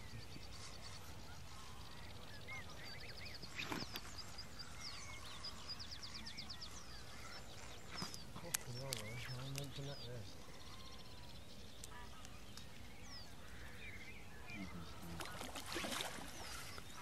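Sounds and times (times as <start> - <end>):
birds chirping and trilling: 0.0 - 17.0
low gliding bird calls: 0.0 - 17.0.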